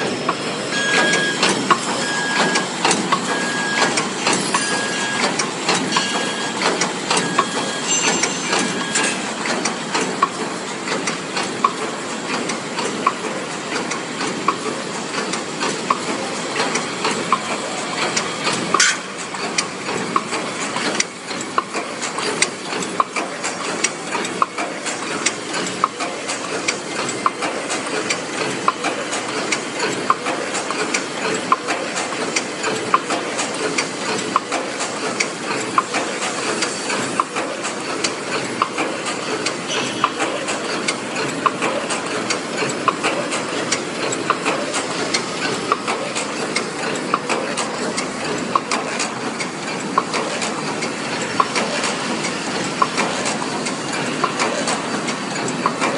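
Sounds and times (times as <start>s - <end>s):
machine clatter and hiss: 0.0s - 55.9s
sharp machine clicks: 0.0s - 55.9s.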